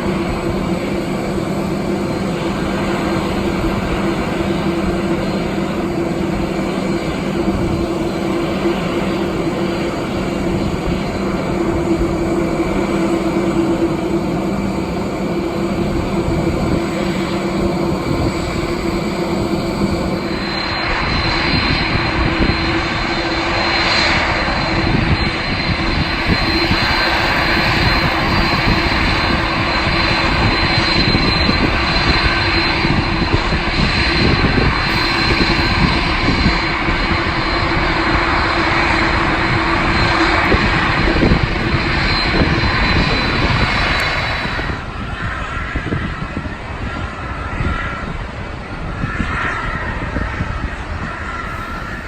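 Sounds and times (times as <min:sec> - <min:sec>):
jet engines running loud: 0:00.0 - 0:52.0
wind buffeting microphone: 0:00.0 - 0:52.0.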